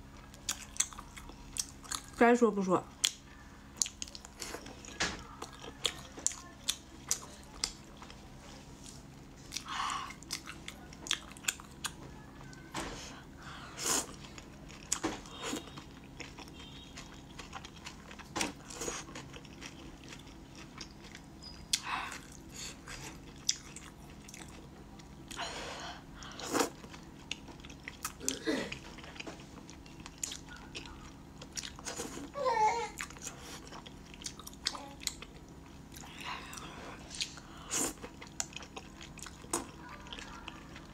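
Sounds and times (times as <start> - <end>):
wet chewing and smacking: 0.1 - 2.2, 2.9 - 8.2, 8.8 - 12.6, 14.0 - 25.4, 26.2 - 40.9.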